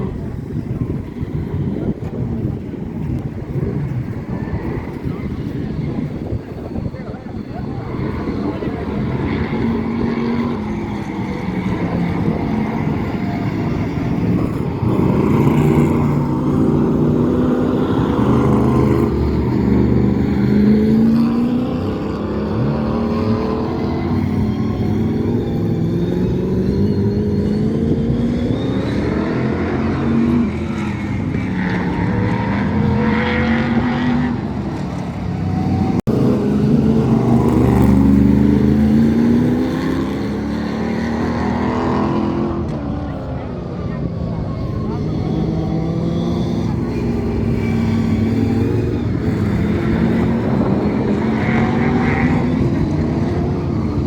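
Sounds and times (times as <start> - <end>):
race car engines accelerating: 0.0 - 54.0.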